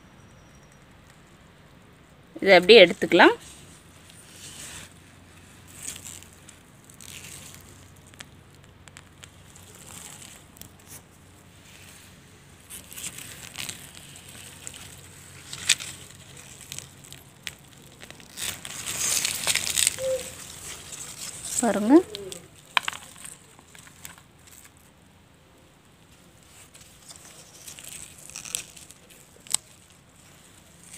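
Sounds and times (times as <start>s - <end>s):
leaves rustling and crackling: 0.8s - 30.9s.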